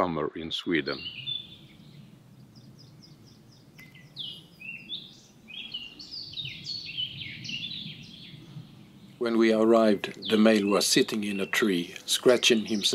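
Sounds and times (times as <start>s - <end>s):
songbirds chirping and singing: 0.6s - 12.9s.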